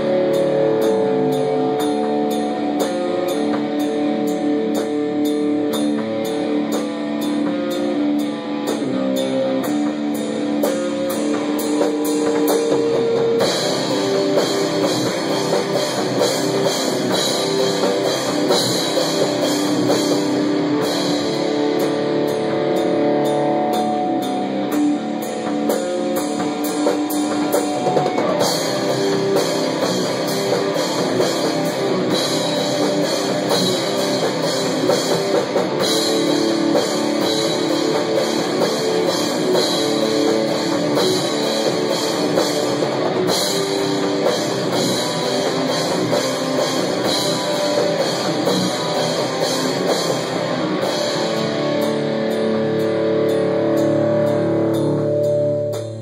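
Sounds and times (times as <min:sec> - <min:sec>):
held electric guitar notes: 0:00.0 - 0:56.0
rock band playing: 0:00.0 - 0:56.0.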